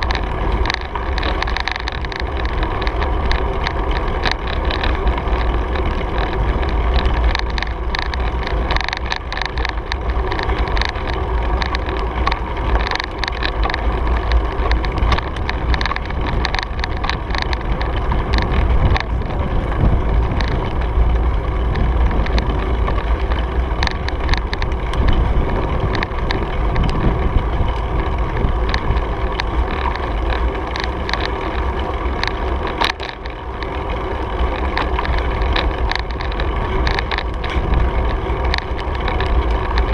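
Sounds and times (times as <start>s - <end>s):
bicycle rattles and clicks: 0.0s - 39.9s
wind buffeting microphone: 0.0s - 39.9s.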